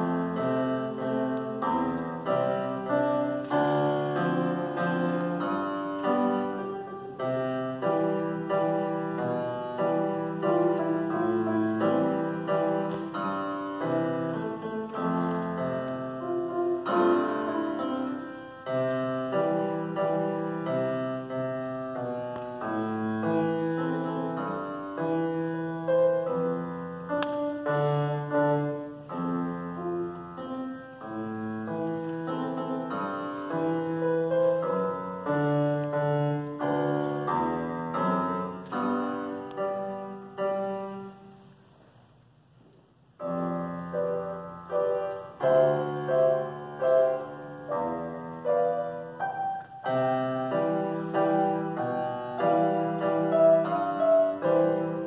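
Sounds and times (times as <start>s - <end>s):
grand piano playing: 0.0s - 42.1s, 42.9s - 55.0s.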